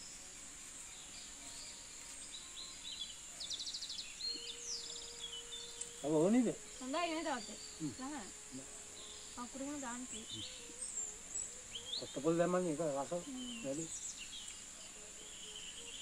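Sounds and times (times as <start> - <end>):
birds chirping and trilling: 0.0 - 16.0
high insect drone: 0.0 - 16.0.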